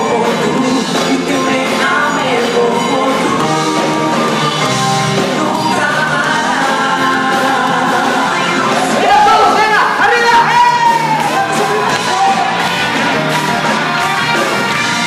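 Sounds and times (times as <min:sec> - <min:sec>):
male vocal group singing: 0:00.0 - 0:13.4
loud accompanying music: 0:00.0 - 0:15.0.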